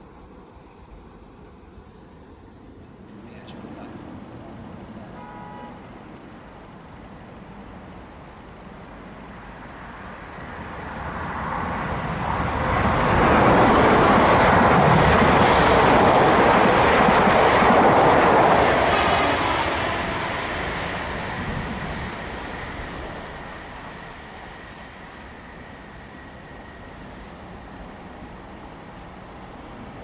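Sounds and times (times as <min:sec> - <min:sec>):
train passing at speed: 0:00.0 - 0:30.0.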